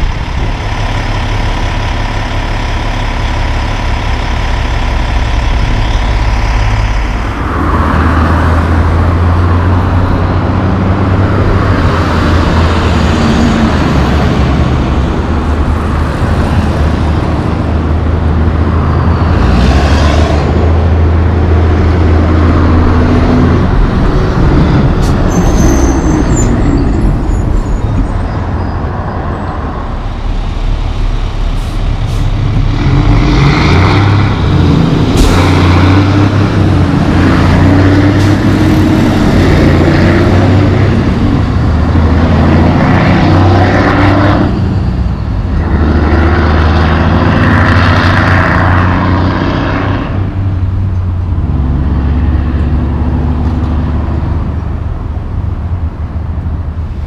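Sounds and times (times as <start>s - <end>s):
heavy truck diesel engines: 0.0s - 57.0s
tyre and traffic noise: 0.0s - 57.0s.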